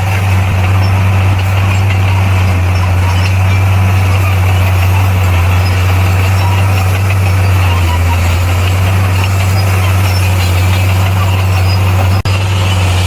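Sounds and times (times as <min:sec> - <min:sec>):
heavy diesel engine droning: 0:00.0 - 0:13.0.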